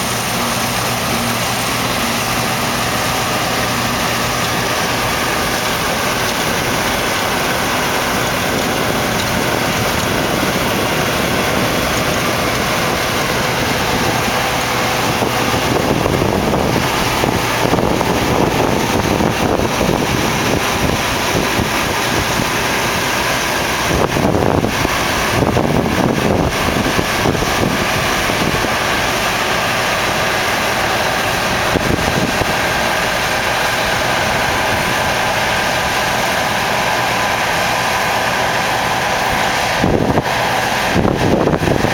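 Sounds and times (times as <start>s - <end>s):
combine harvester droning: 0.0s - 41.9s
wind buffeting microphone: 0.0s - 41.9s.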